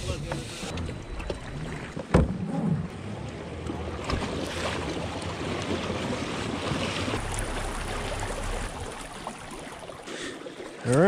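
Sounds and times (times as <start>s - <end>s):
water rushing along kayak hull: 0.1s - 11.0s.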